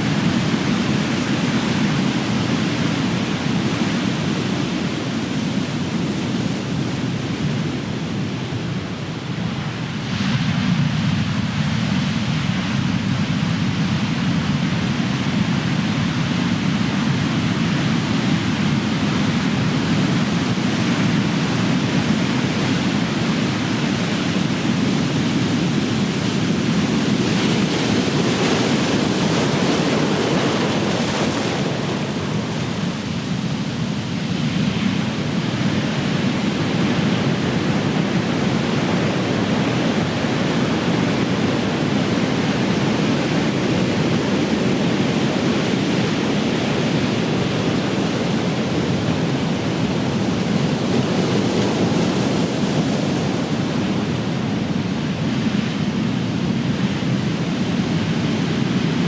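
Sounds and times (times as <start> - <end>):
ocean waves crashing on shore: 0.0 - 59.0.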